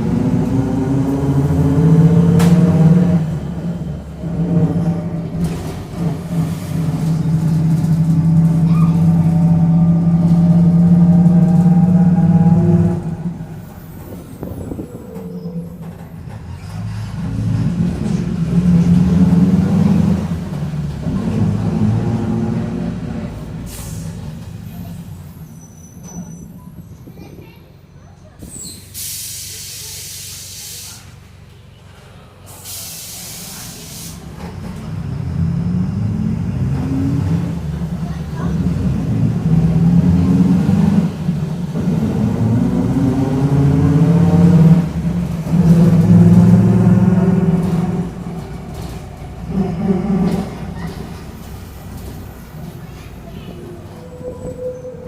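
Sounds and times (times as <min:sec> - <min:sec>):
bus differential droning: 0:00.0 - 0:55.0.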